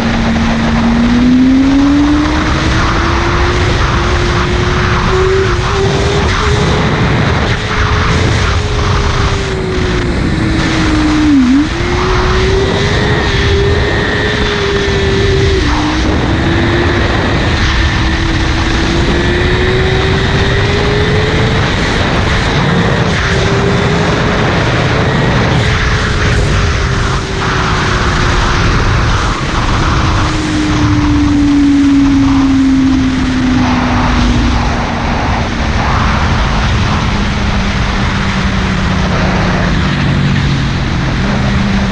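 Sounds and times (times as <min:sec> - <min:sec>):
motorcycle engine revving: 0:00.0 - 0:41.9
wind rush: 0:00.0 - 0:41.9.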